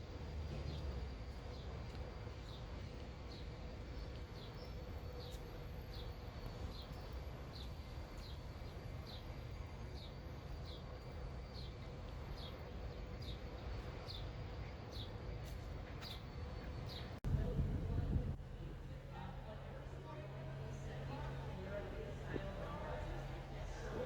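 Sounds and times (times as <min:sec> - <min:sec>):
low city hum: 0:00.0 - 0:24.0.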